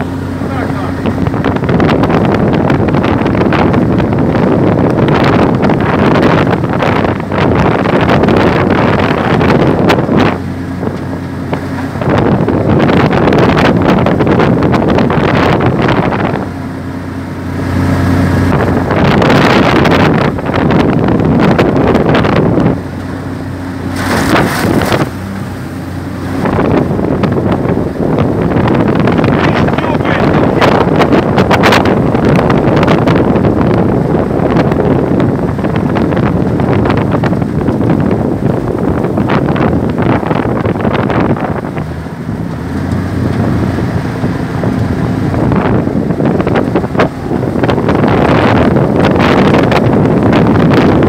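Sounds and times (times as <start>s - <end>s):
outboard boat motor running: 0.0s - 51.0s
wind buffeting microphone: 0.0s - 51.0s.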